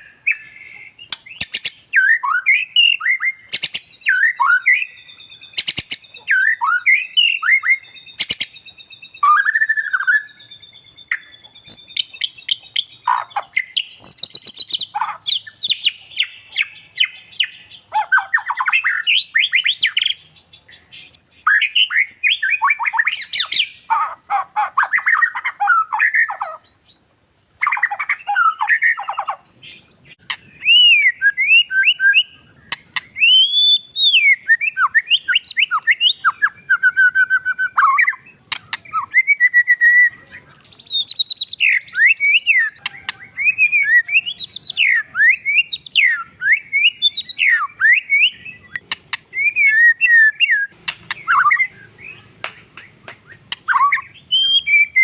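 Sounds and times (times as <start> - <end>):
songbird whistling and trilling: 0.0 - 27.0, 27.6 - 55.0.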